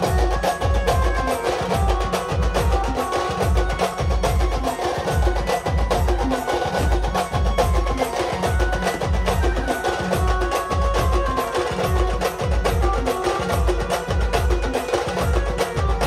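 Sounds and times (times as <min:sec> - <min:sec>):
fast sharp drum strokes: 0:00.0 - 0:16.0.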